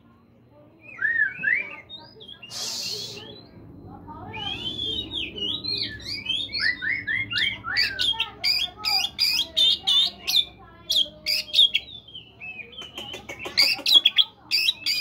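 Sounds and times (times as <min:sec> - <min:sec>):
bird whistling and warbling: 0:00.8 - 0:03.6, 0:04.2 - 0:15.0.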